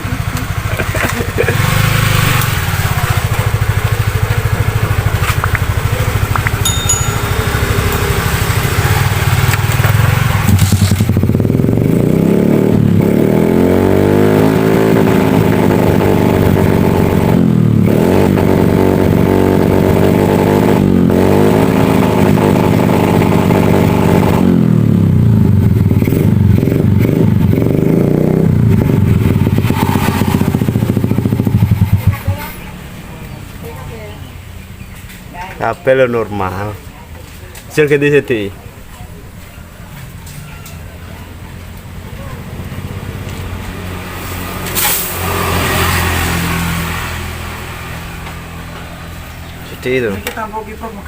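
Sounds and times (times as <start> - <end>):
motorcycle engine revving: 0.0 - 35.0, 41.3 - 50.4.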